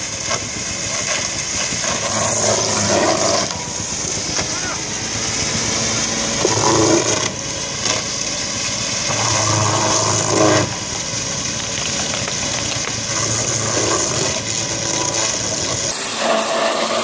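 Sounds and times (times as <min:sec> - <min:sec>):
wood crusher shredding branches: 0:00.0 - 0:17.0.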